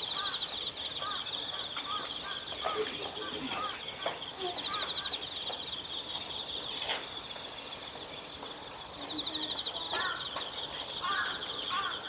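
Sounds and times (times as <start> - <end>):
faint scattered calls: 0.0 - 12.0.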